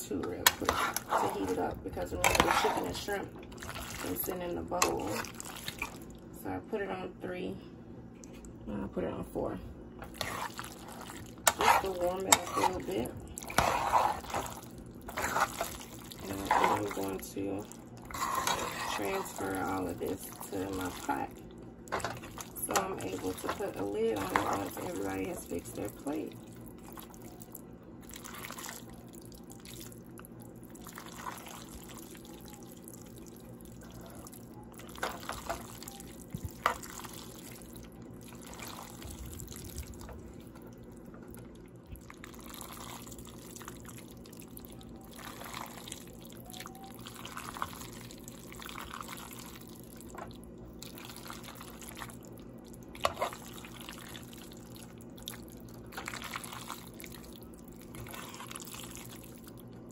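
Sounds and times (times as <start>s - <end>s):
wet squishing of creamy pasta: 0.3s - 6.3s, 10.0s - 59.9s.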